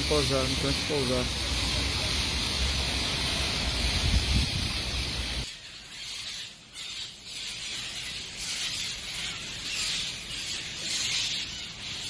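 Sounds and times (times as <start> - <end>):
flock of parakeets screeching: 0.0 - 12.0.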